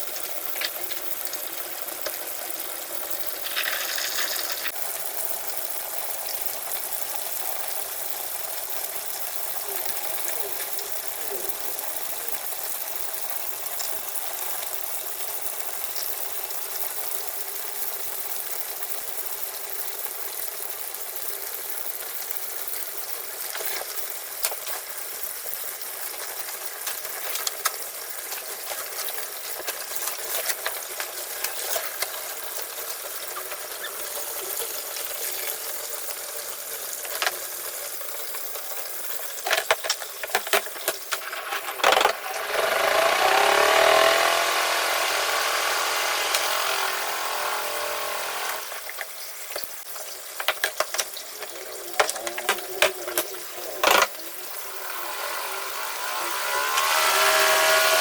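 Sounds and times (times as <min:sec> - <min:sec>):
water hissing and splashing: 0:00.0 - 0:58.0.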